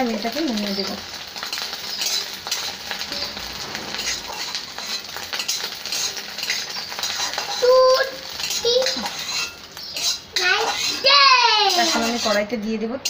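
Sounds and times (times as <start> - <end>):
eggs sizzling in hot oil: 0.0 - 13.0
metal utensil scraping a pan: 0.0 - 13.0.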